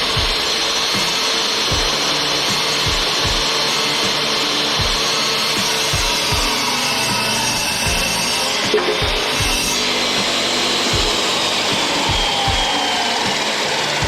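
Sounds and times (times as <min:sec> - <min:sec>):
music with thumping beat: 0:00.0 - 0:13.5
power tool motor whine: 0:00.0 - 0:14.0.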